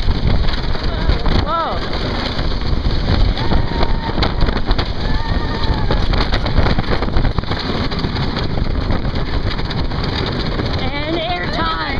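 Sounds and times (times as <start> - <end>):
roller coaster rumbling on track: 0.0 - 11.9
wind over phone microphone: 0.0 - 11.9.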